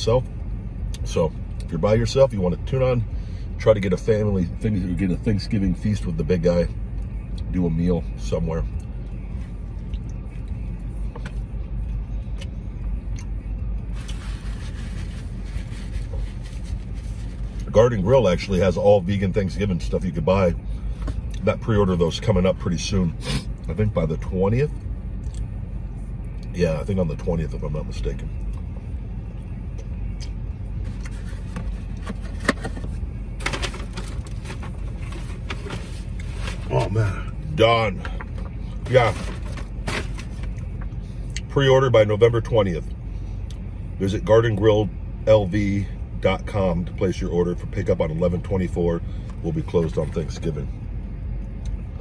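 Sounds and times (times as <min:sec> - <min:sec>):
low rumble inside car: 0:00.0 - 0:52.0.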